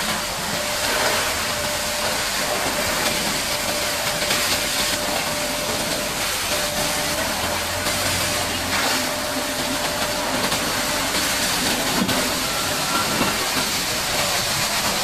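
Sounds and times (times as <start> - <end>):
high-pressure water spray hissing: 0.0 - 15.0.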